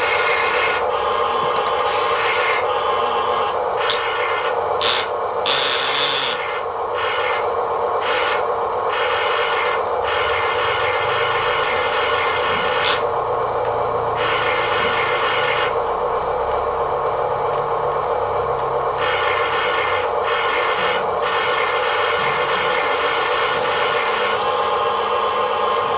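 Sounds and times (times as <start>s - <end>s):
small motor whining: 0.0s - 13.2s, 14.1s - 16.4s, 18.5s - 25.9s.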